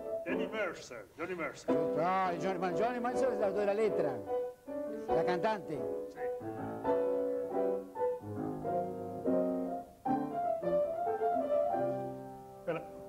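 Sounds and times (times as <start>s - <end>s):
jazz piano chords: 0.0s - 0.9s, 1.5s - 13.0s.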